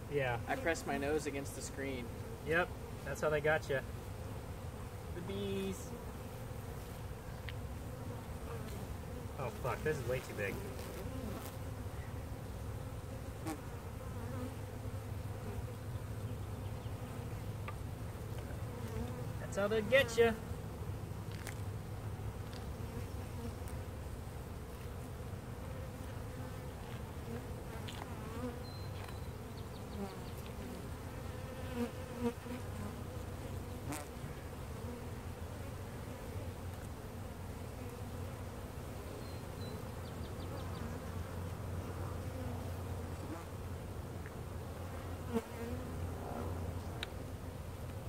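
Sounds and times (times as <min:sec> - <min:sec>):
honey bees buzzing: 0:00.0 - 0:48.0.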